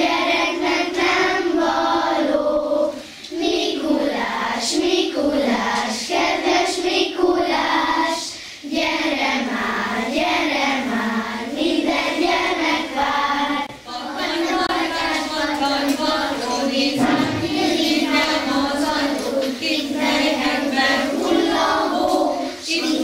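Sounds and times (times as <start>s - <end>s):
young children singing in unison: 0.0s - 23.0s.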